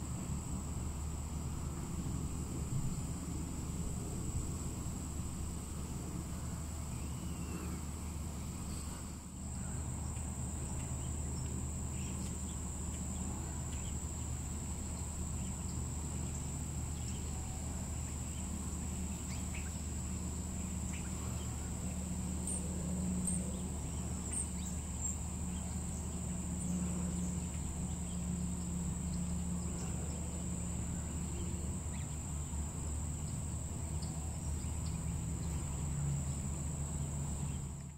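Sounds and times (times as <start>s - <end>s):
insects trilling: 0.0s - 37.9s
low steady hum: 0.0s - 37.9s.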